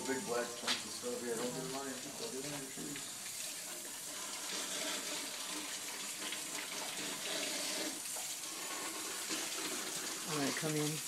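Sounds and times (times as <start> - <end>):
high-pressure water jet spraying: 0.0 - 11.0.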